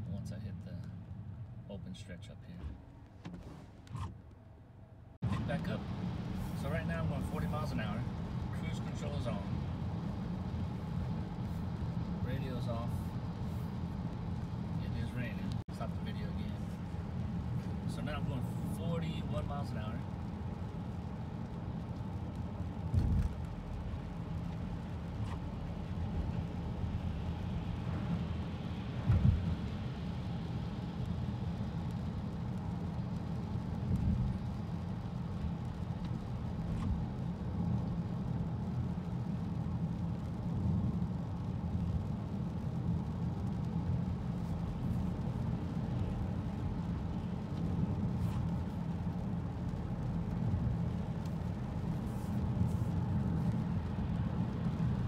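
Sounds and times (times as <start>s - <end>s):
low tyre rumble: 0.0s - 55.0s
hiss of water from wet road: 5.4s - 55.0s.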